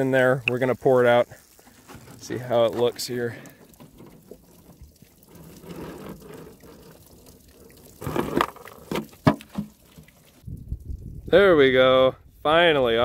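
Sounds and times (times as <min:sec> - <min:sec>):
water pouring from plastic jug: 0:00.0 - 0:11.2.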